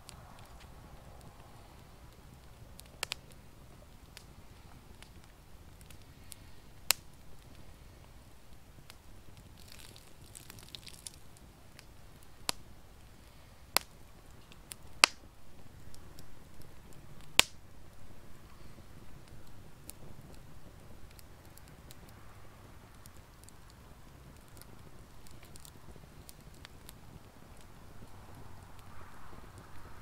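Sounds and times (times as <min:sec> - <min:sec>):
fire hiss: 0:00.0 - 0:30.0
wood fire crackling: 0:00.0 - 0:30.0.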